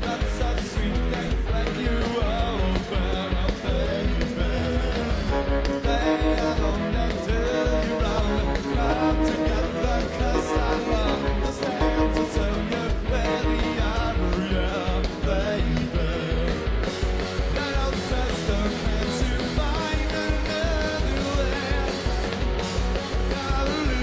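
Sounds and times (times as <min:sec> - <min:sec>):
bass guitar: 0:00.0 - 0:24.0
electric guitars: 0:00.0 - 0:24.0
steady drum beat: 0:00.0 - 0:24.0.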